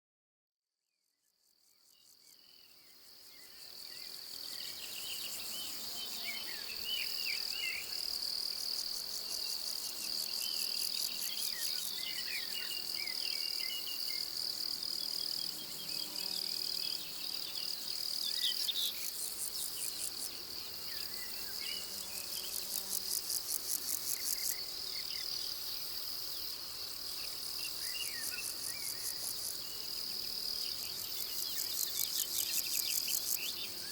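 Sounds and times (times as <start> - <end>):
insects chirring: 1.6 - 33.9.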